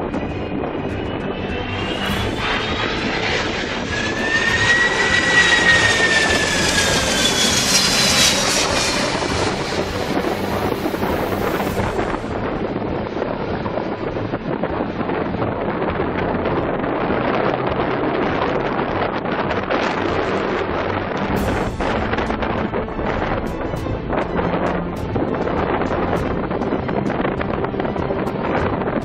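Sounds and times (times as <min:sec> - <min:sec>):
rushing air noise: 0:00.0 - 0:17.4, 0:18.6 - 0:29.0
jet engines whining overhead: 0:00.0 - 0:29.0.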